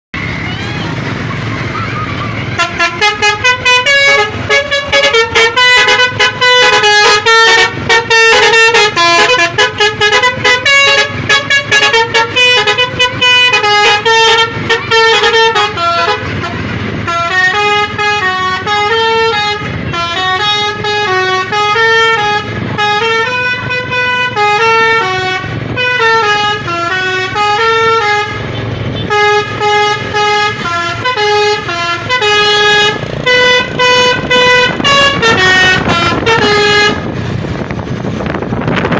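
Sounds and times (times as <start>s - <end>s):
bus air horn playing melody: 2.4s - 37.6s.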